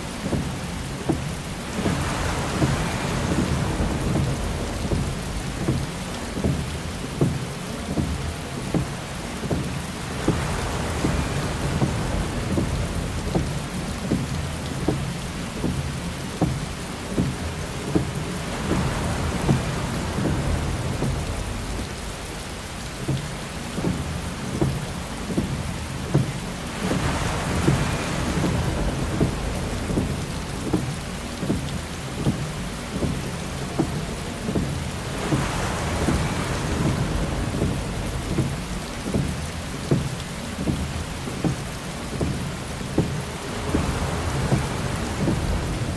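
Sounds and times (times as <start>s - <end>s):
heavy rain on car roof: 0.0s - 45.9s
windshield wiper swishing: 0.0s - 45.9s.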